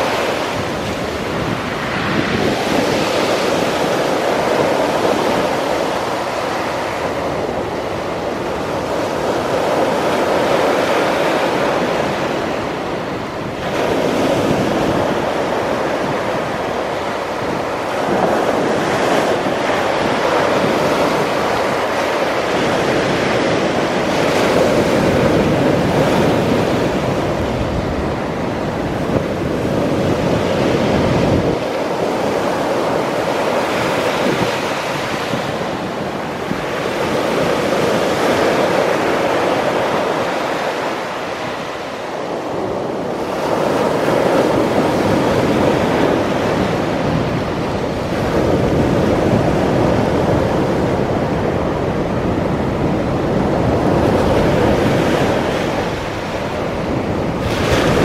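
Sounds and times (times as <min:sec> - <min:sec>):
surf breaking on shore: 0:00.0 - 0:58.0
wind buffeting microphone: 0:00.0 - 0:58.0.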